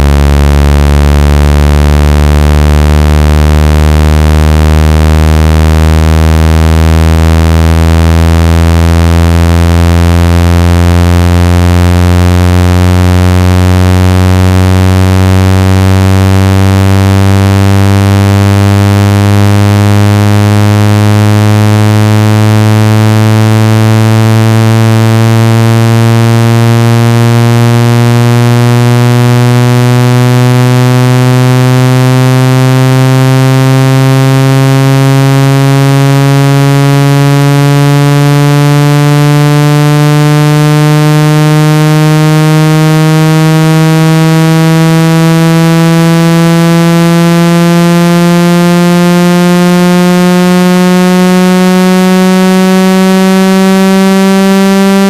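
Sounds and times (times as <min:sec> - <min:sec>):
buzzy low synthesized tone: 0:00.0 - 0:55.0.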